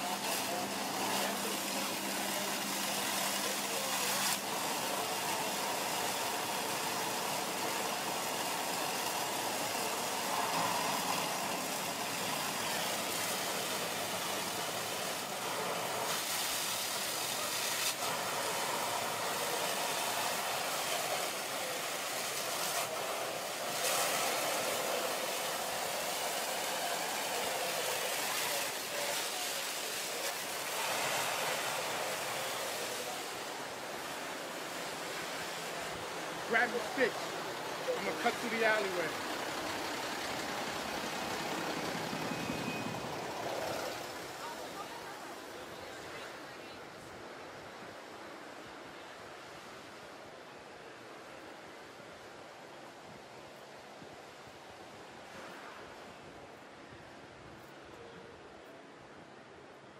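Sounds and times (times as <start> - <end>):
fire hose spraying water: 0.0 - 56.6
fire engines running: 0.0 - 59.7.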